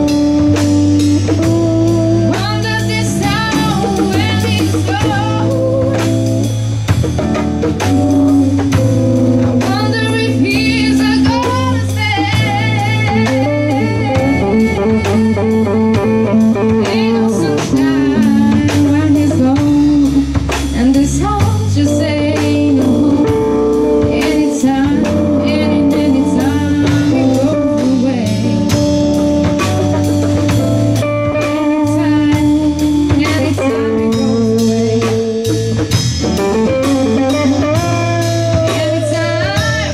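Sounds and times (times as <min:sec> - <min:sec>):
woman singing with vibrato: 0:00.0 - 0:06.5, 0:09.6 - 0:29.0, 0:31.5 - 0:35.6, 0:37.3 - 0:39.9
drum kit: 0:00.0 - 0:39.9
electric bass: 0:00.0 - 0:39.9
electric guitar: 0:00.0 - 0:39.9.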